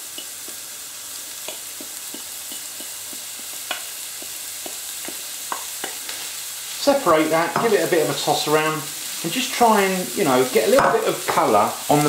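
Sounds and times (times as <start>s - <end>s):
onions and bacon sizzling: 0.0s - 12.0s.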